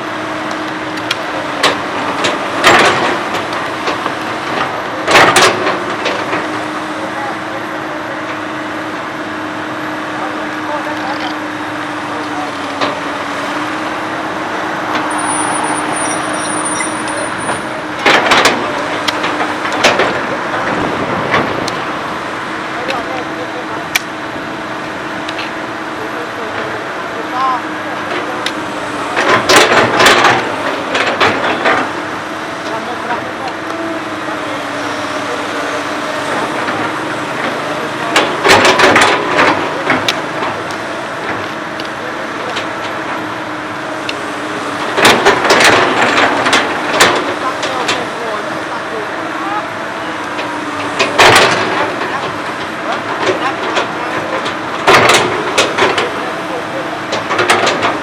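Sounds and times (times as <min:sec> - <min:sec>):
excavator diesel engine running: 0:00.0 - 0:58.0
loud clattering knocks: 0:01.0 - 0:07.6, 0:12.1 - 0:26.9, 0:28.0 - 0:58.0.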